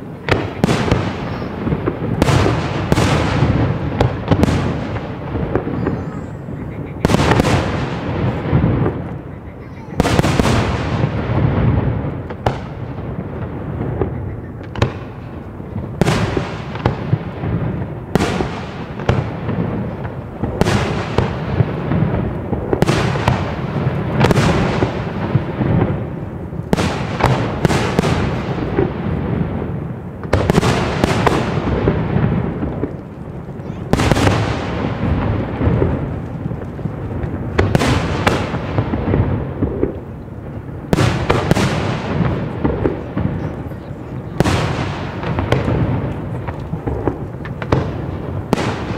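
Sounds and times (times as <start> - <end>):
fireworks bursting with bangs: 0.0 - 48.9.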